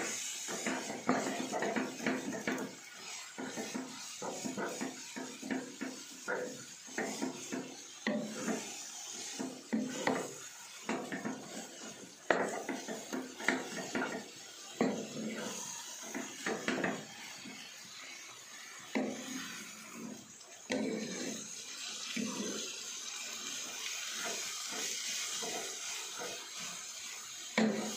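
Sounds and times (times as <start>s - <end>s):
spatula scraping frying pan: 0.0s - 27.9s.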